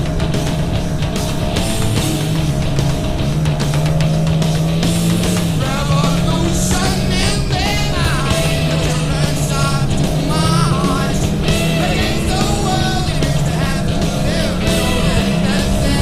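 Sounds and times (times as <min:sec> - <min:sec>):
rock music with male vocals: 0:00.0 - 0:16.0.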